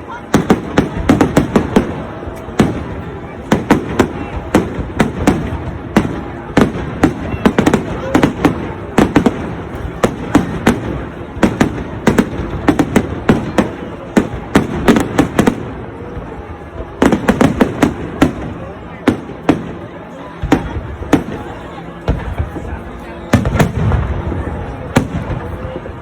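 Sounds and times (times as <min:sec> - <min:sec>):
continuous rumble: 0:00.0 - 0:26.0
fireworks bangs and crackles: 0:00.0 - 0:26.0.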